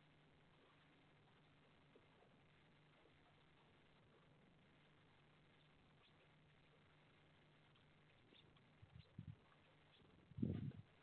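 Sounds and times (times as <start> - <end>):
microphone hiss and hum: 0.0 - 11.0.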